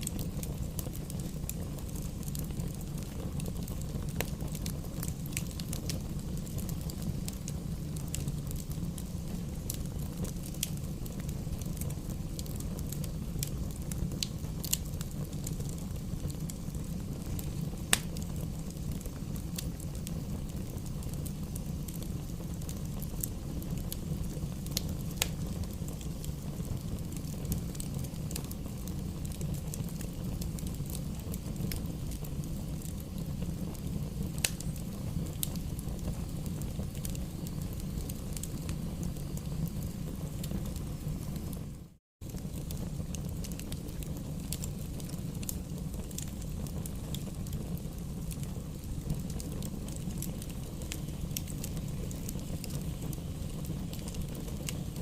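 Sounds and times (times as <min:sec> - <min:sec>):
fire crackling and popping: 0:00.0 - 0:55.0
low rumble of flames: 0:00.0 - 0:55.0.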